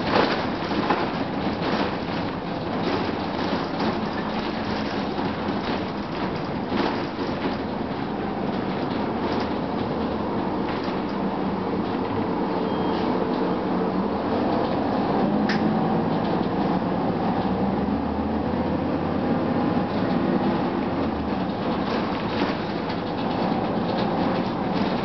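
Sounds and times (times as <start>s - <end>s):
bus body rattles and clicks: 0.0s - 25.0s
bus diesel engine rumble: 0.0s - 25.0s.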